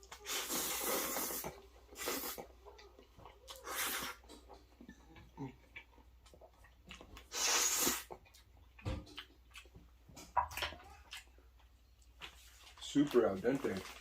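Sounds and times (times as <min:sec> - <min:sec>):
wet mouth clicks and chewing: 0:01.2 - 0:12.5.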